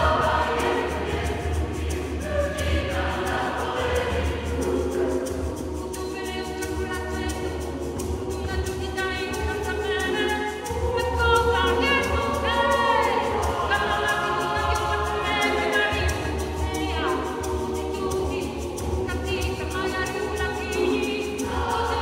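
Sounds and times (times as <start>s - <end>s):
mixed choir singing: 0.0s - 22.0s.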